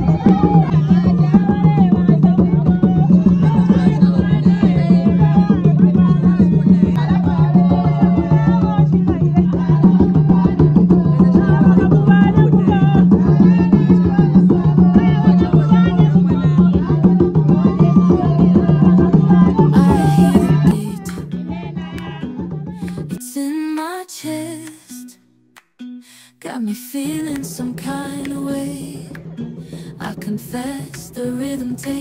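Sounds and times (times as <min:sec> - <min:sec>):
hand drums beating fast rhythm: 0:00.0 - 0:23.2, 0:27.2 - 0:32.0
group of voices singing: 0:00.0 - 0:25.1, 0:26.4 - 0:32.0.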